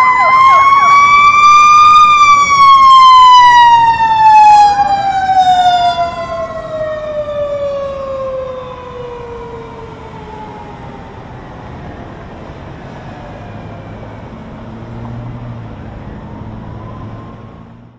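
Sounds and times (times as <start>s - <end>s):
siren winding down: 0.0s - 12.3s, 13.1s - 17.9s
second siren rising: 0.0s - 17.9s
traffic noise: 0.0s - 17.9s
truck engine rumble: 0.0s - 17.9s.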